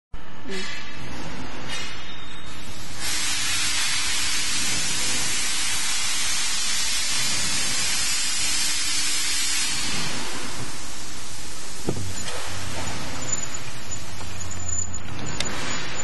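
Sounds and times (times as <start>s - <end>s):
cable stripping machine hiss: 2.6s - 16.0s.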